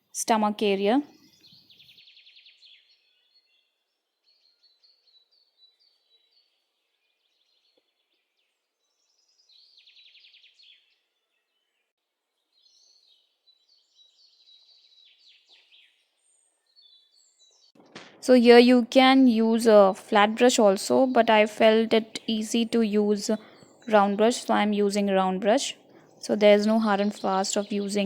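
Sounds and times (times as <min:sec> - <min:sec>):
faint birdsong chirps: 0:00.2 - 0:28.0.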